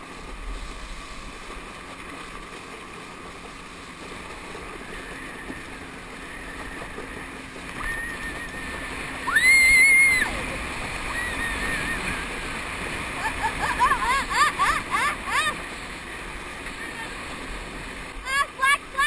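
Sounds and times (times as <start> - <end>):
motorboat running: 0.0 - 19.0
rushing water and wind: 0.0 - 19.0.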